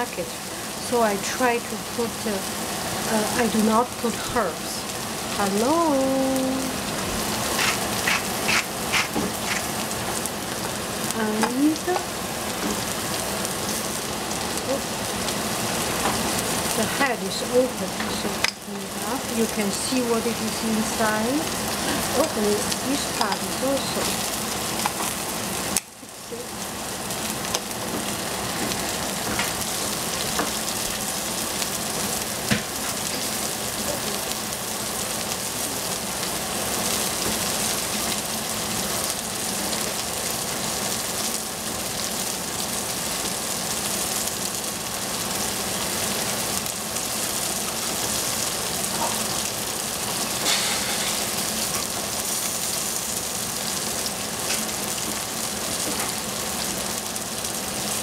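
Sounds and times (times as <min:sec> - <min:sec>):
vegetables sizzling in a saucepan: 0:00.0 - 0:58.0.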